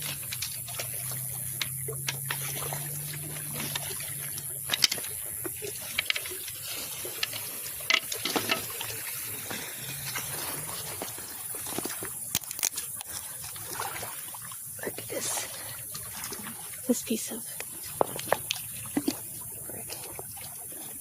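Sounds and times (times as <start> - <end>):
small waves lapping: 0.0 - 21.0.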